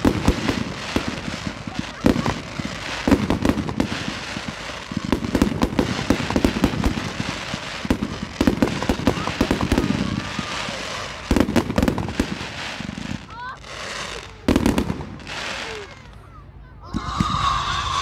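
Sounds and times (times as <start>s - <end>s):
fireworks bangs: 0.0s - 16.2s, 16.8s - 18.0s
fireworks crackling: 0.0s - 18.0s.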